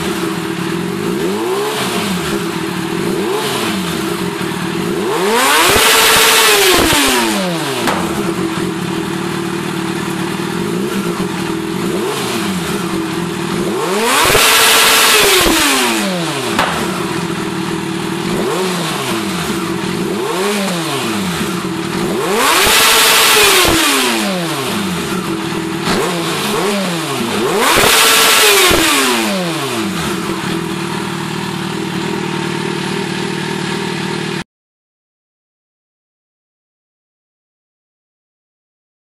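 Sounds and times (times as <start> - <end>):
motorcycle engine idling and revving: 0.0 - 34.4.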